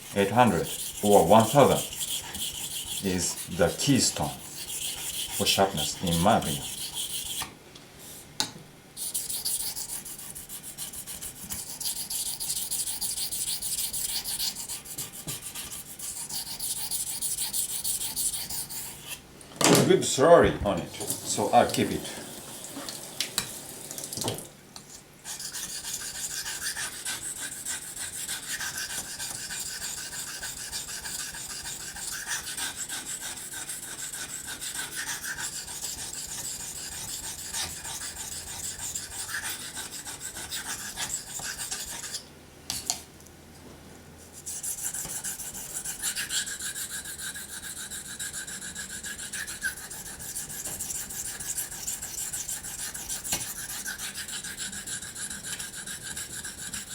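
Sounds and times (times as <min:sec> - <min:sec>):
knife scraping on whetstone: 0:00.0 - 0:07.5, 0:09.0 - 0:19.2, 0:21.7 - 0:23.7, 0:24.8 - 0:43.0, 0:44.3 - 0:56.9.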